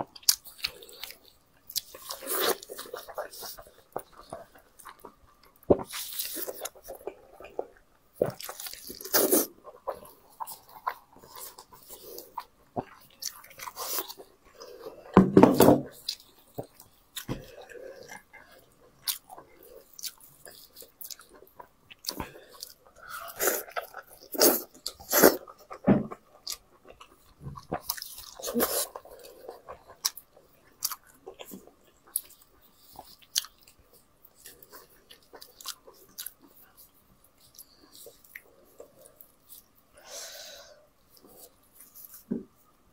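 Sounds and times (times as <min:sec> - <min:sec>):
chewing and biting: 0:00.1 - 0:15.2, 0:15.9 - 0:39.7.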